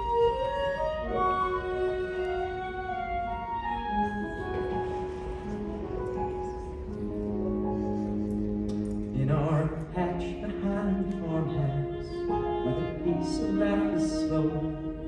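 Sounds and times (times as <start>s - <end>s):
stage musical melody: 0.0s - 15.0s.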